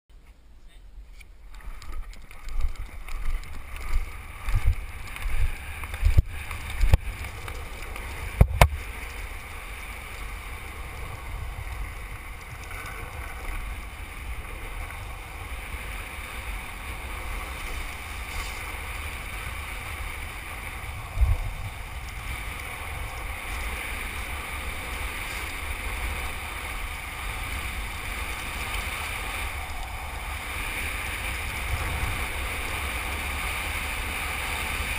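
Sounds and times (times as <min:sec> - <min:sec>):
wheels rumbling on asphalt: 0:01.3 - 0:34.9
wind rushing over microphone: 0:01.4 - 0:34.9.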